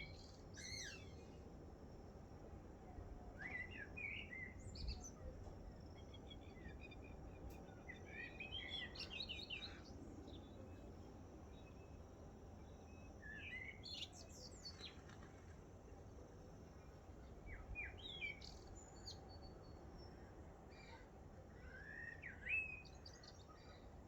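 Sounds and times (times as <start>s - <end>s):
faint low background noise: 0.0s - 24.0s.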